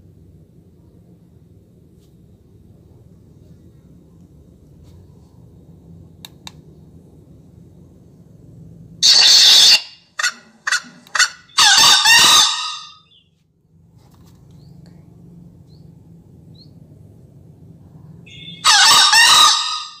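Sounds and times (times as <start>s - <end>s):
faint low hum: 0.0s - 11.7s, 13.0s - 18.6s.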